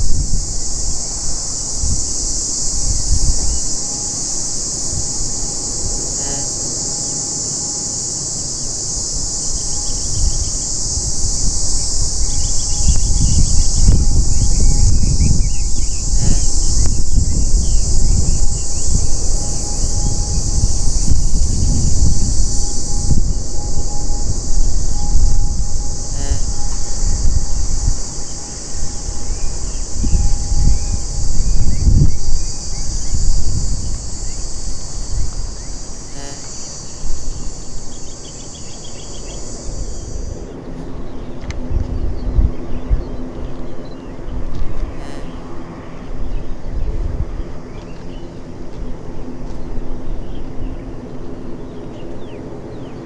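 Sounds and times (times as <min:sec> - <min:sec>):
high insect drone: 0:00.0 - 0:53.0
turboprop airliner rumble: 0:00.0 - 0:53.0.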